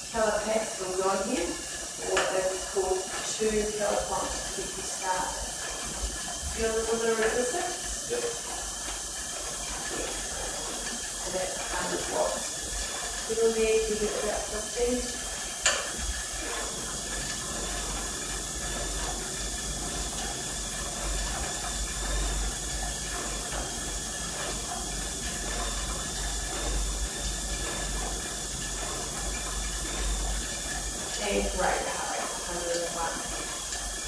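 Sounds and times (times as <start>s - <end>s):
exercise bike flywheel hissing: 0.0s - 34.0s.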